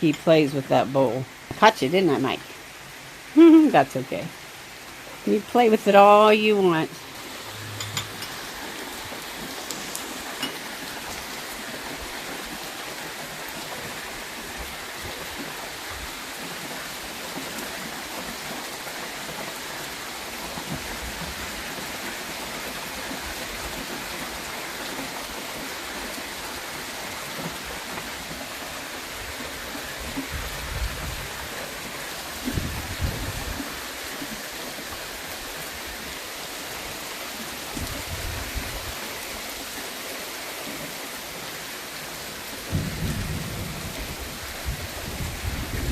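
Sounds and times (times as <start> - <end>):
rain hissing: 0.0 - 45.9.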